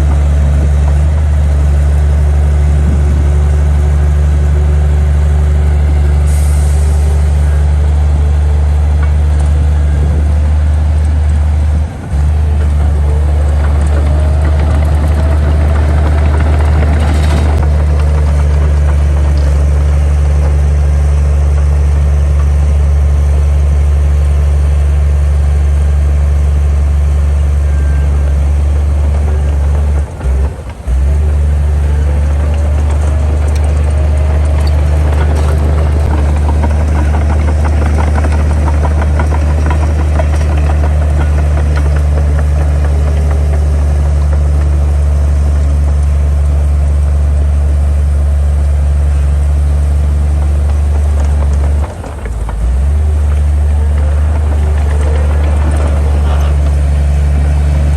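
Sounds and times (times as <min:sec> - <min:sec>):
diesel machinery engine drone: 0:00.0 - 0:57.9
machinery whine: 0:00.0 - 0:57.9.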